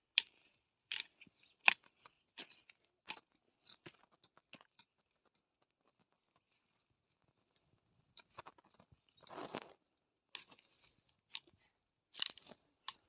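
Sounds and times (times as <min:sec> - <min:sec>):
soil crunching: 0:00.0 - 0:13.0.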